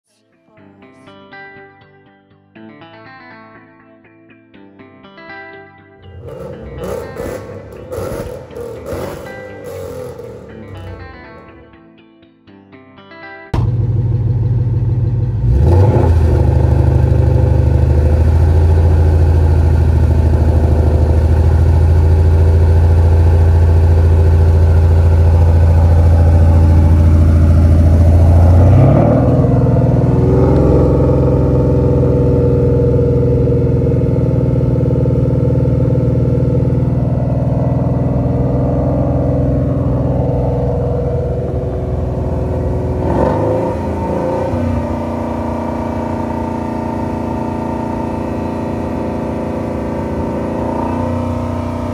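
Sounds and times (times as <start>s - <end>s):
car engine idling: 6.1s - 11.4s, 13.6s - 51.9s.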